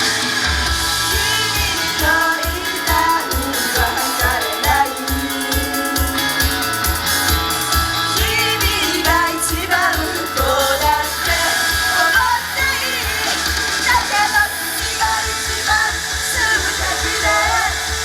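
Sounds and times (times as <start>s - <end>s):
person singing: 0.0s - 18.0s
pop-rock backing music: 0.0s - 18.0s.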